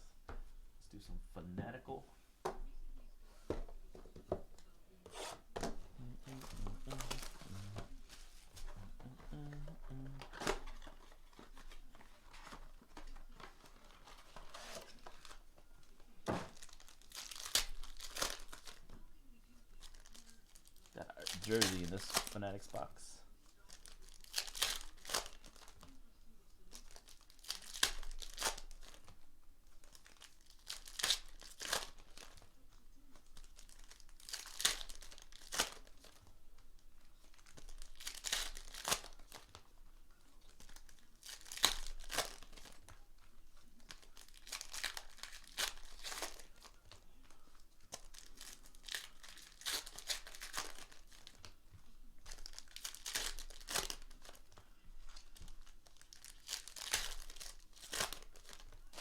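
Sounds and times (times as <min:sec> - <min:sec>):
wrappers torn and crinkled: 0:06.0 - 0:15.4, 0:16.2 - 0:18.8, 0:19.7 - 0:26.0, 0:26.6 - 0:59.0.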